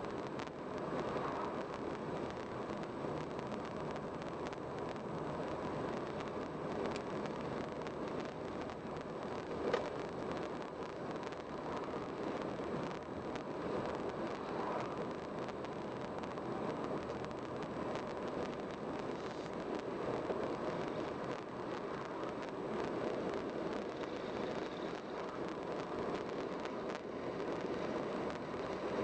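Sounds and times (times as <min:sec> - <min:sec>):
car road and tyre noise: 0:00.0 - 0:29.0.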